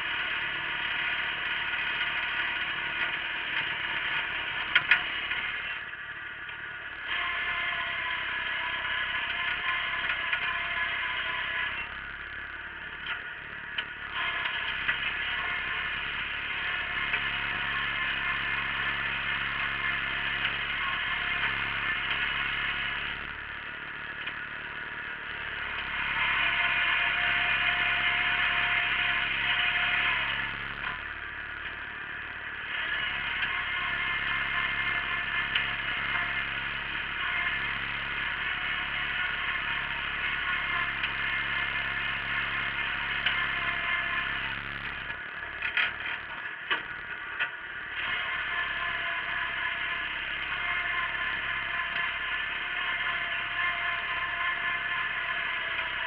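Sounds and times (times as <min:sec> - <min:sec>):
garden tractor running under load: 0:00.0 - 0:56.0.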